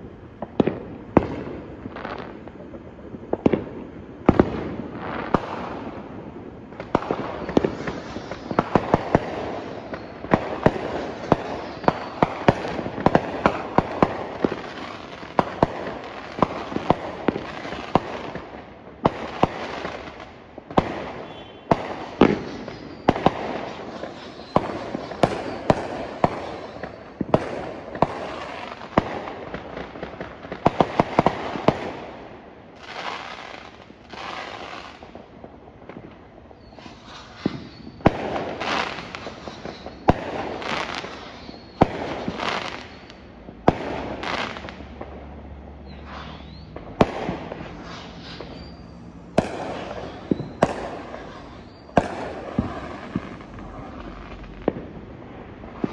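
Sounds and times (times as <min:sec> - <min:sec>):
fireworks bursting with echo: 0:00.0 - 0:55.9.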